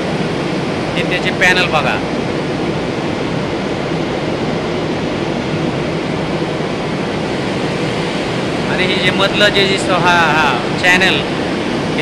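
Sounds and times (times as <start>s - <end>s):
electric water pumps humming: 0.0s - 12.0s.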